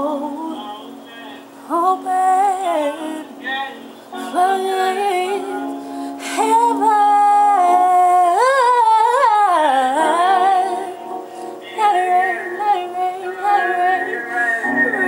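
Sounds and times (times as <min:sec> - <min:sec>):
woman singing gospel: 0:00.0 - 0:00.9, 0:01.6 - 0:03.4, 0:04.2 - 0:15.0.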